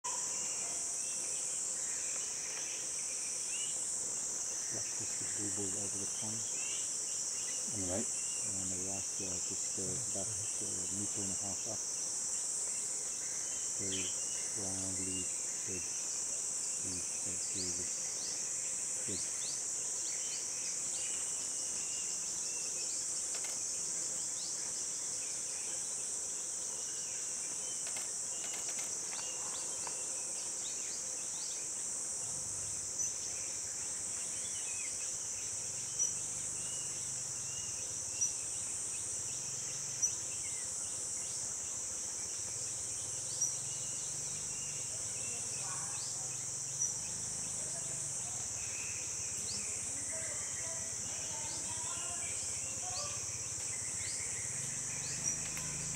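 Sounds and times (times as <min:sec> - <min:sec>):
insect chorus drone: 0:00.0 - 0:55.9.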